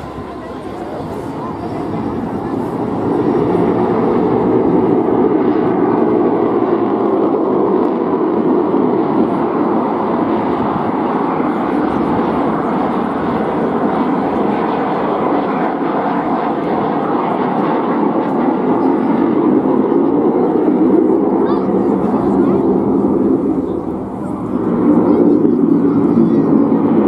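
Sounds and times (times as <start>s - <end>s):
jet rushing noise: 0.0s - 16.9s, 19.4s - 27.0s.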